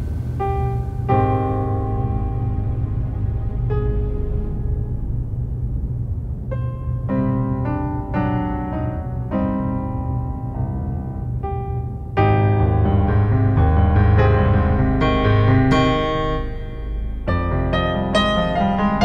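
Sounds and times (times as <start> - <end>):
deep bass: 0.0 - 19.0
piano music: 0.0 - 19.0.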